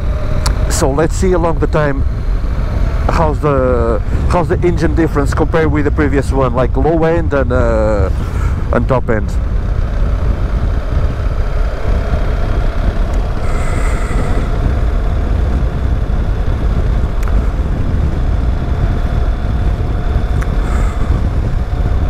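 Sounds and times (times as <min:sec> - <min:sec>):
motorcycle engine low rumble: 0:00.0 - 0:22.0
wind noise on microphone: 0:00.0 - 0:22.0.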